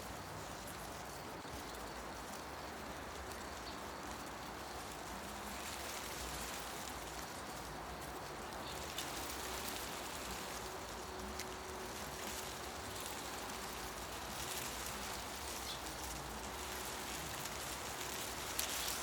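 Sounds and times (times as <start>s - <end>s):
faint ticks: 0.0s - 19.0s
wind rustling tree leaves: 0.0s - 19.0s.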